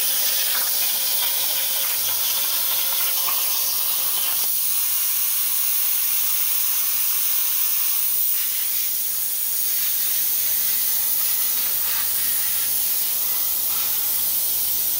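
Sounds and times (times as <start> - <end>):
plasma cutter torch hissing: 0.0 - 14.9.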